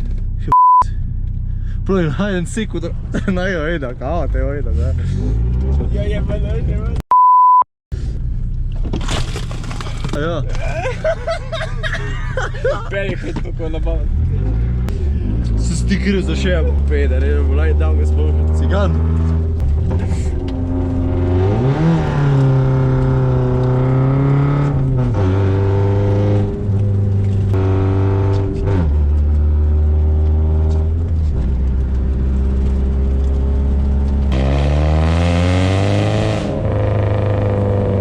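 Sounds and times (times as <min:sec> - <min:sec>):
car engine revving: 0:02.1 - 0:07.0, 0:10.0 - 0:38.0.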